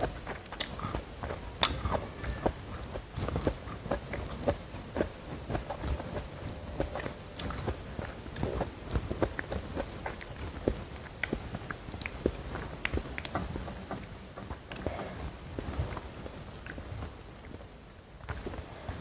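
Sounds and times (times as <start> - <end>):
crunchy chewing and biting: 0.0 - 14.0, 14.6 - 17.6
wet mouth clicks: 0.4 - 14.1, 14.7 - 17.6.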